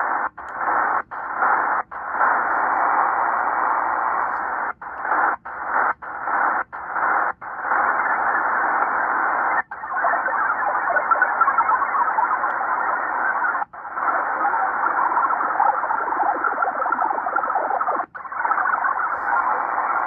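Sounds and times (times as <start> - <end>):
shortwave radio static hiss: 0.0 - 20.0.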